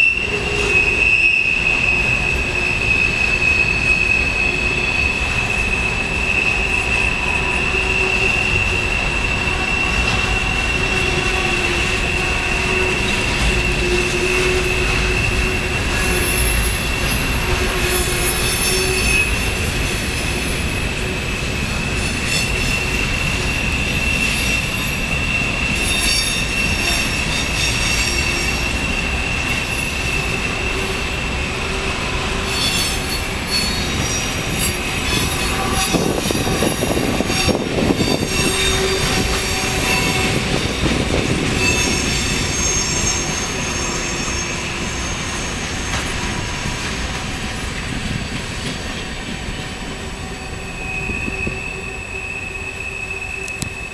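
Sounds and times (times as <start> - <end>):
train wheels squealing on rails: 0.0 - 53.9.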